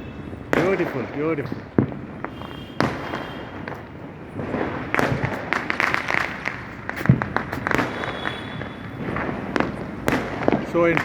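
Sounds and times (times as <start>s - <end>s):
firecrackers banging and crackling: 0.0s - 11.0s
heavy firework bang: 0.4s - 11.0s.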